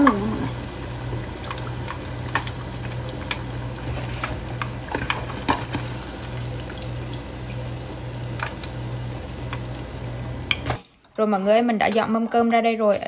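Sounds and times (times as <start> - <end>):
batter deep-frying in oil: 0.0 - 10.8
oil popping and crackling: 0.0 - 10.8.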